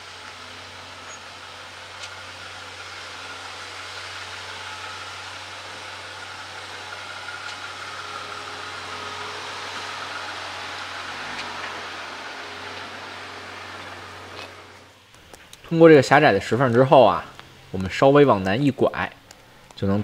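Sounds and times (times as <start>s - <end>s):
vehicle engine running low: 0.0s - 20.0s.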